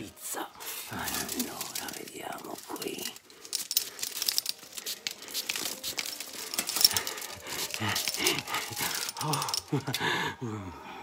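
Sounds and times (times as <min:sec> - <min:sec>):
dense crinkling and crackling: 0:00.7 - 0:09.8.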